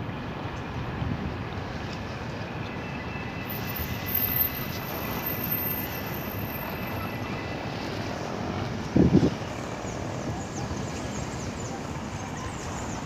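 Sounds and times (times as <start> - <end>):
distant diesel locomotive rumble: 1.2 - 13.0.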